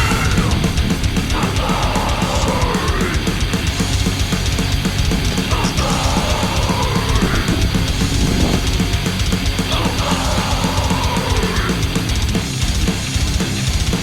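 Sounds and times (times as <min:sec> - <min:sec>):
heavy metal music: 0:00.0 - 0:14.0.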